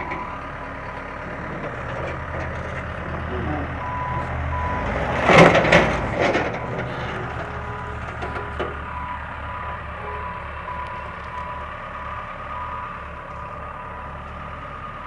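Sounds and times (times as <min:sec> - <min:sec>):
reversing alarm beeping: 0:00.0 - 0:00.5, 0:01.5 - 0:06.8, 0:07.7 - 0:15.0
backhoe engine running: 0:00.0 - 0:15.0.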